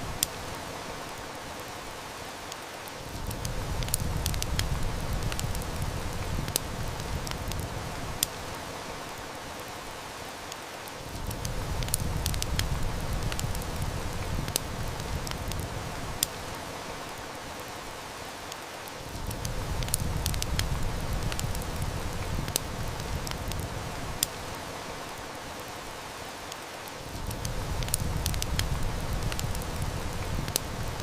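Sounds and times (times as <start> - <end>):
wood fire snapping and popping: 0.0 - 1.3, 2.5 - 9.2, 10.5 - 17.1, 18.5 - 25.1, 26.5 - 31.0
heavy rain: 0.0 - 31.0.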